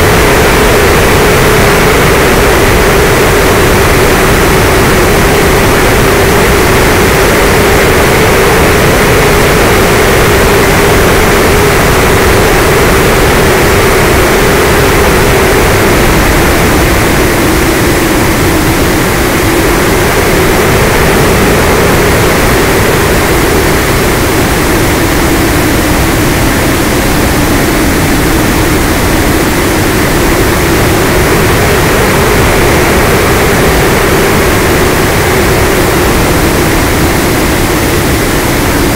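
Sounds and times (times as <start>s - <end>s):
electric motor and propeller hum: 0.0s - 38.9s
wind rushing on microphone: 0.0s - 38.9s.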